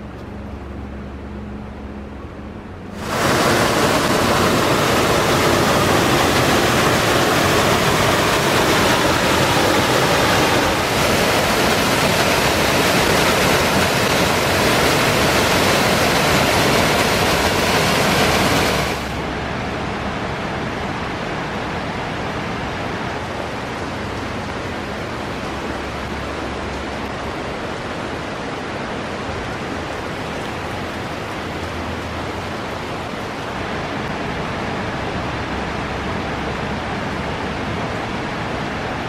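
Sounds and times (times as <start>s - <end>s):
water rushing in a creek: 2.9s - 39.0s.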